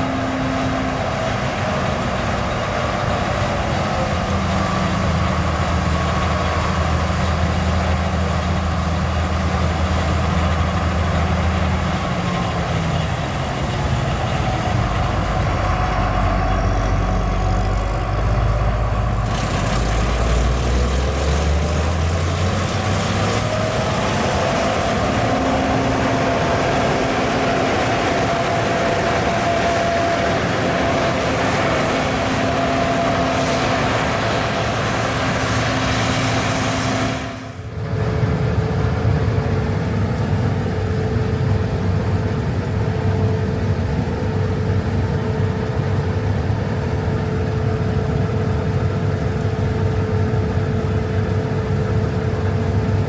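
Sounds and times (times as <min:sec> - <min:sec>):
combine harvester drone: 0:00.0 - 0:53.0.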